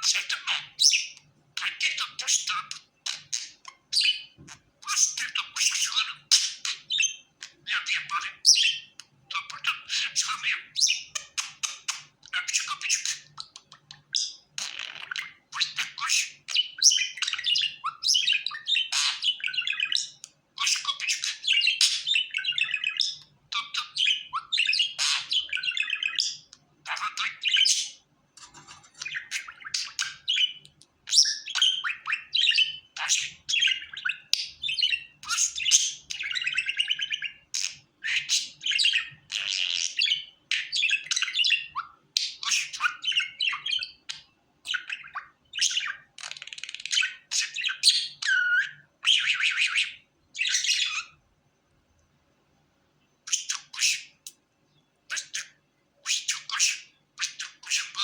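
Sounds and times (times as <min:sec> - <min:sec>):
budgerigar warbling and chirping: 0:00.0 - 0:51.2, 0:53.2 - 0:54.4, 0:55.1 - 0:58.0.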